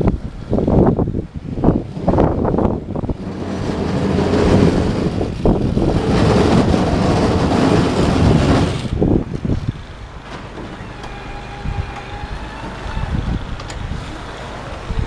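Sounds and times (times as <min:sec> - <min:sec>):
electric tractor running: 0:01.8 - 0:15.0.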